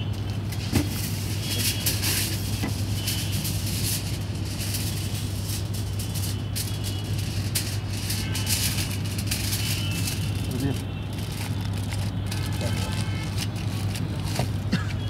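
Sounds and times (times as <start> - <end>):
aluminium foil crinkling: 0.0 - 14.7.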